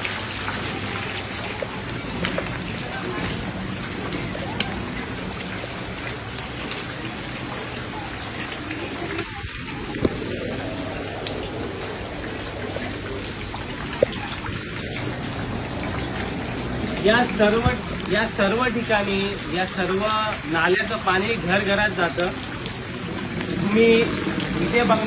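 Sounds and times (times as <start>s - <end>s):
rain falling on floodwater: 0.0s - 25.0s
water running from gutters: 0.0s - 25.0s.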